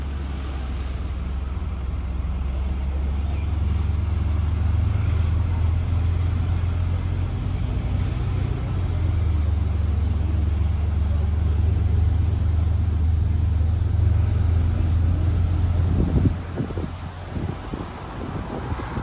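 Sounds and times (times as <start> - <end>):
vehicle driving road noise: 0.0 - 19.0.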